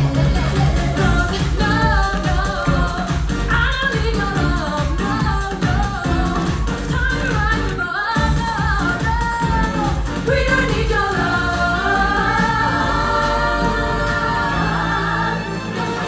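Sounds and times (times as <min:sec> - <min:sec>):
women singing in harmony: 0:00.2 - 0:16.0.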